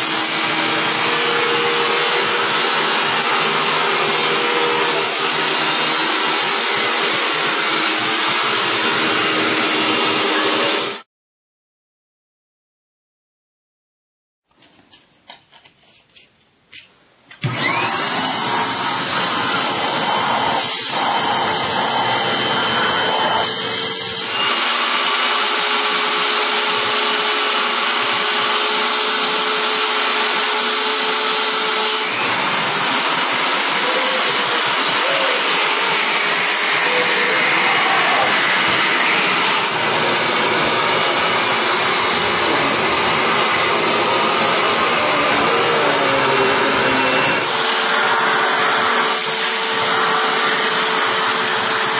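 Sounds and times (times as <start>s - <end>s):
upright vacuum cleaner running: 0.0s - 11.0s, 17.4s - 51.9s.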